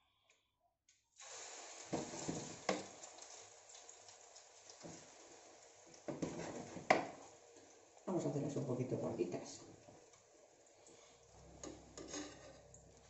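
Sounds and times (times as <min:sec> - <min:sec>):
mixture sizzling in hot oil: 0:01.1 - 0:13.0.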